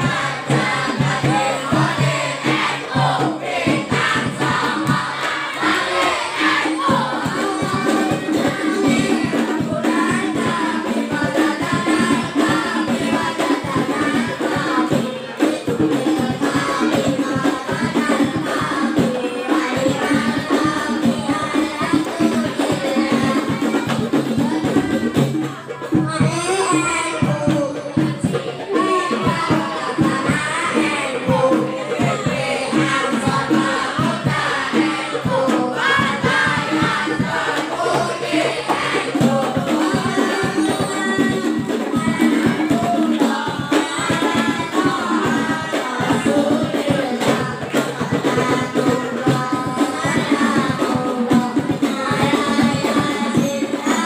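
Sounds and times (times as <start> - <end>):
boys singing together: 0.0 - 54.0
frame drums beating fast rhythm: 0.0 - 54.0.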